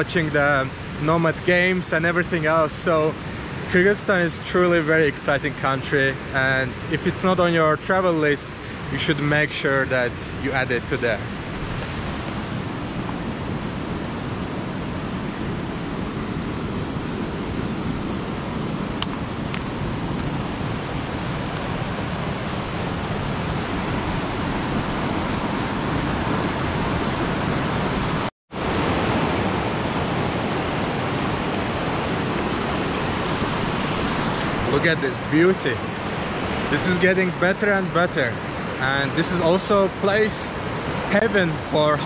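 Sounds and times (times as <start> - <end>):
fast river rushing: 0.0 - 42.0.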